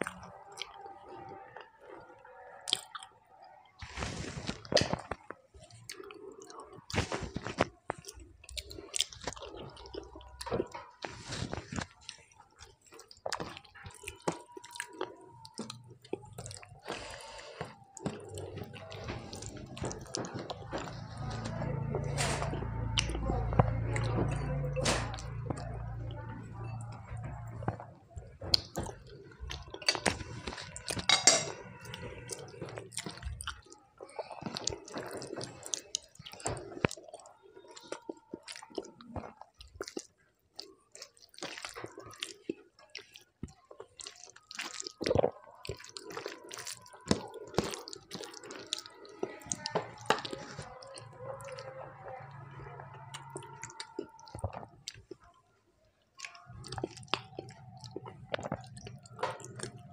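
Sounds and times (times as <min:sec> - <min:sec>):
chewing rice: 0:00.0 - 0:59.9
fingers squelching food: 0:00.0 - 0:59.9.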